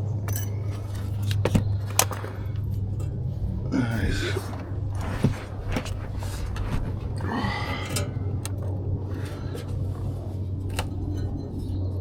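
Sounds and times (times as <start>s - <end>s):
hand tools clicking on metal: 0.0s - 12.0s
steady low hum: 0.0s - 12.0s.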